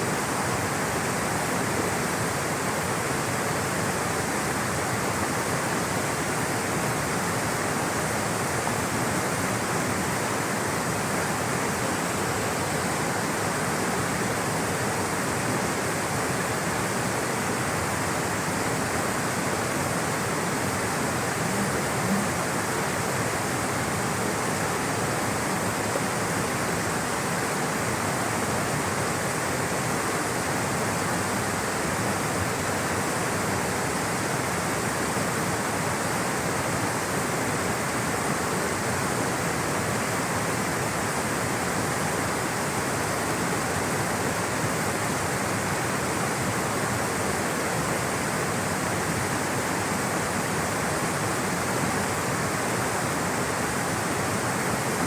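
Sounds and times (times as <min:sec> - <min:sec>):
rushing water roaring: 0:00.0 - 0:55.0.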